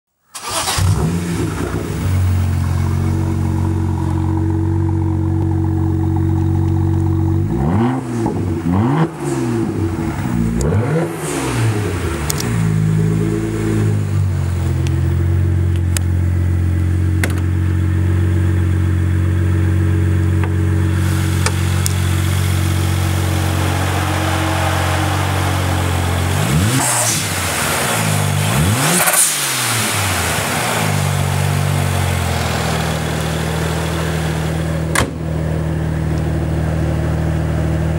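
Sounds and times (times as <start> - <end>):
car engine starting and revving: 0.3 - 37.9.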